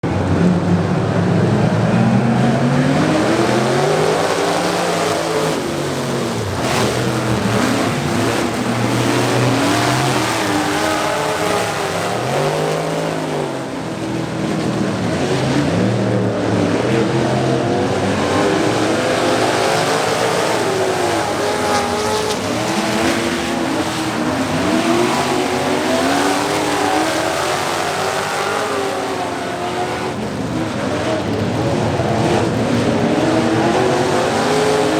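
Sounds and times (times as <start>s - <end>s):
race truck engines revving: 0.0s - 34.9s.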